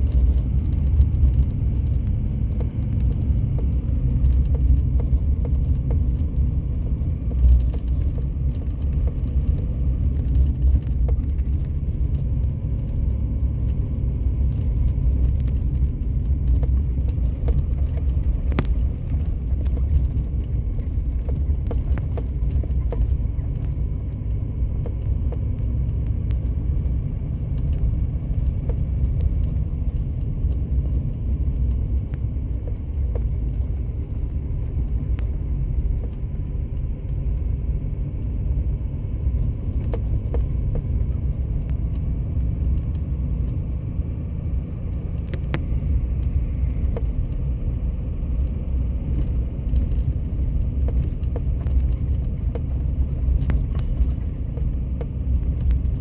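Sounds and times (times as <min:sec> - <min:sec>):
car rumbling on snowy road: 0:00.0 - 0:56.0.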